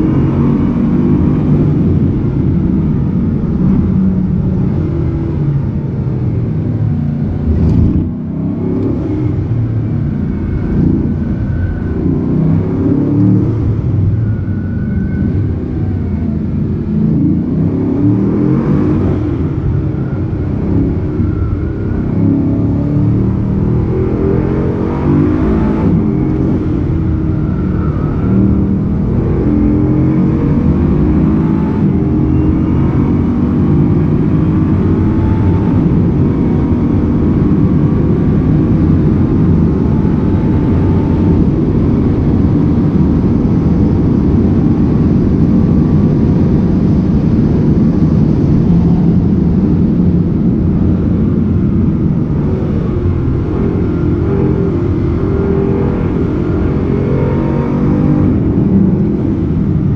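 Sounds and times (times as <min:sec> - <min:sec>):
car engine drone from cabin: 0:00.0 - 0:59.9
road noise: 0:00.0 - 0:59.9.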